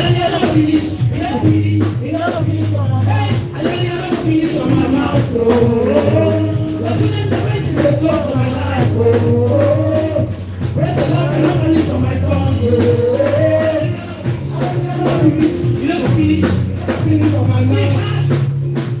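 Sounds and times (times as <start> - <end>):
rattling tambourine beat: 0.0 - 19.0
steady bass pattern: 0.0 - 19.0.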